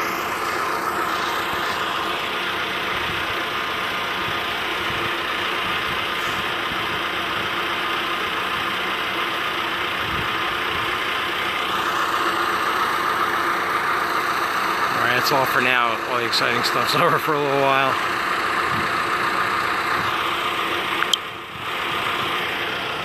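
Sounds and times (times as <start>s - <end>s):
aerial lift engine running: 0.0s - 23.0s.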